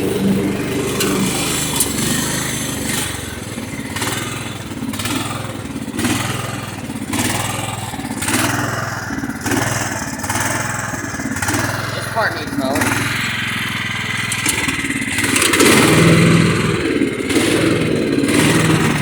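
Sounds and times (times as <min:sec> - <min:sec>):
lawn tractor engine pulsing: 0:00.0 - 0:19.0.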